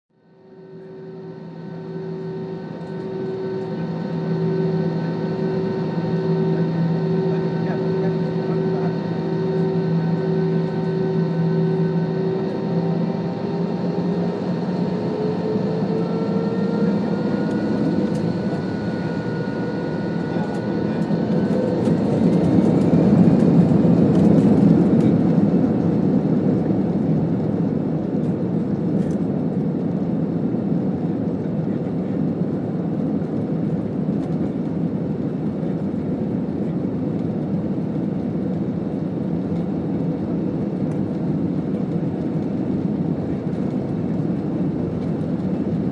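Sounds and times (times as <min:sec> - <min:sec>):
jet engines whining: 0:00.2 - 0:45.9.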